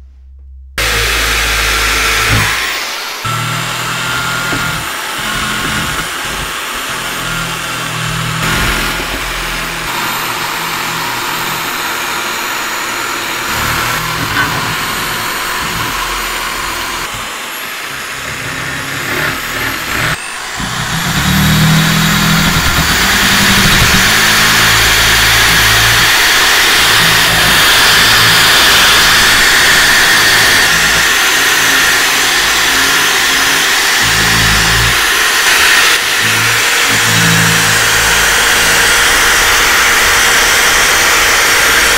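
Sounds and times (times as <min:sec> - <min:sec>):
abrasive wheel grinding metal: 0:00.8 - 0:41.9
rotary tool motor whine: 0:00.8 - 0:41.9.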